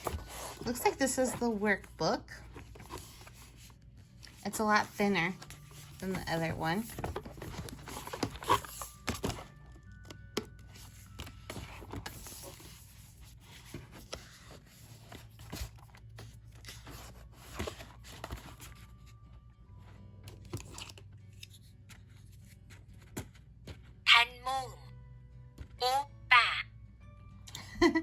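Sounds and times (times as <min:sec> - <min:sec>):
paper pages turning: 0:00.0 - 0:19.2, 0:20.3 - 0:23.8
faint background music: 0:00.0 - 0:28.0.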